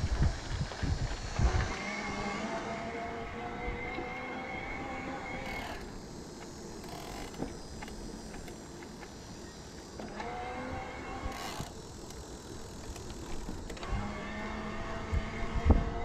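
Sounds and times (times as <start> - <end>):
electric bike motor whining: 0.0 - 16.0
rush of wind: 0.0 - 16.0.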